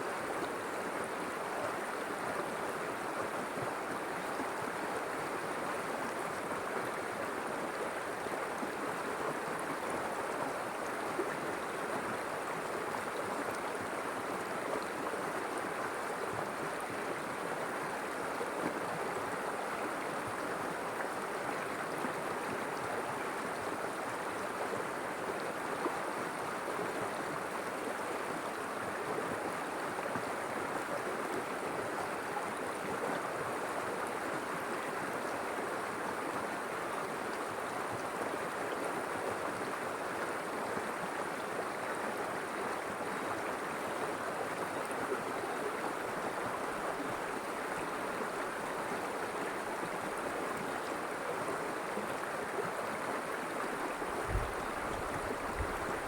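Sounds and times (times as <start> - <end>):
river water flowing over stones: 0.0 - 56.0.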